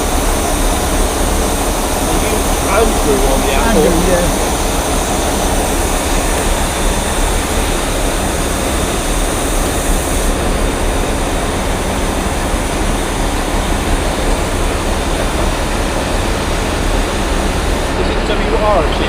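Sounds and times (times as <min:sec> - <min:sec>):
train engine rumbling: 0:00.0 - 0:19.0.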